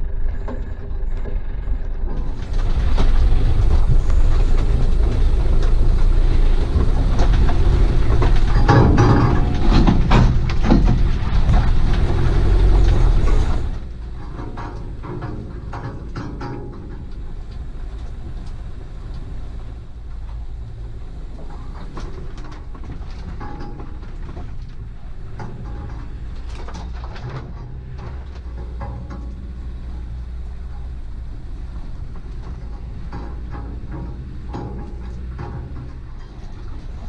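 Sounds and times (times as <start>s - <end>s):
knocks and rattles: 0.0s - 37.0s
low engine rumble: 0.0s - 37.0s.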